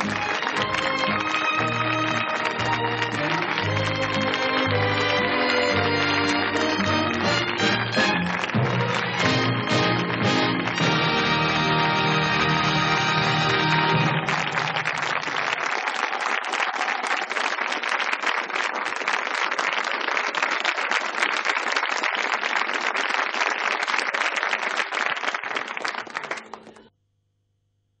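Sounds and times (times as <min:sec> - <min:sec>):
audience applauding: 0:00.0 - 0:26.9.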